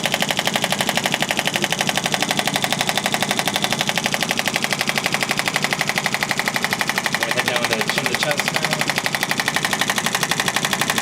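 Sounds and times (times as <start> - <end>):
rapid sharp clicks of therapy device: 0.0 - 11.0.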